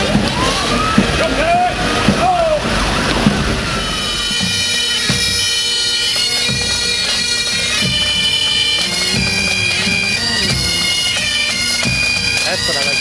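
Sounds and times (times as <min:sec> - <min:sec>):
bagpipes playing a tune: 0:00.0 - 0:13.0
drum beats: 0:00.0 - 0:13.0.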